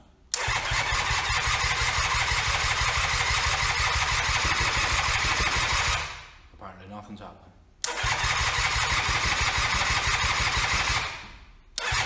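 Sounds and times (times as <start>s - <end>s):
electric starter cranking engine: 0.3s - 6.3s, 7.8s - 12.0s.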